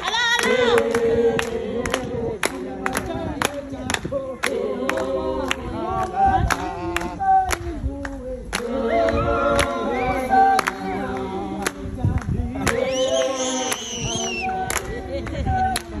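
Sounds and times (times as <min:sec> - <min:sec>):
group singing call-and-response: 0:00.0 - 0:16.0
hand-clapping: 0:00.0 - 0:16.0.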